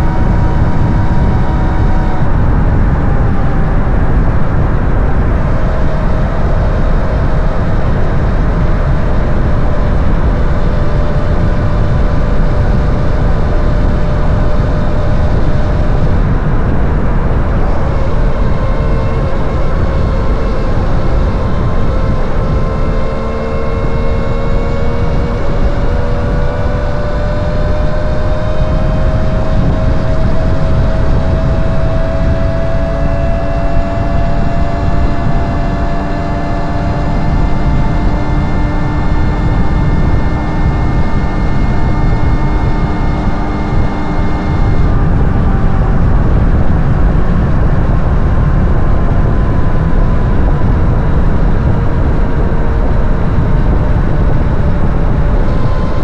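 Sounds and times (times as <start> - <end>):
electric motor whine: 0.0 - 56.0
wind buffeting microphone: 0.0 - 56.0.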